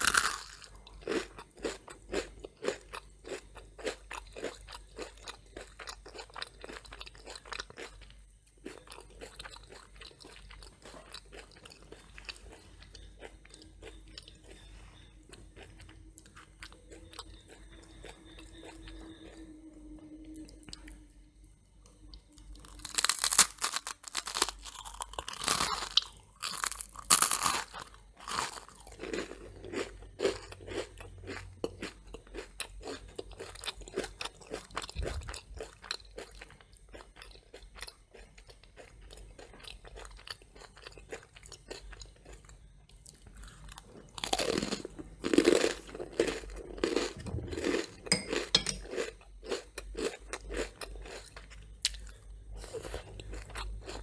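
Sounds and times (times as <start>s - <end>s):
crunching toast: 0.0s - 14.7s, 22.4s - 54.0s.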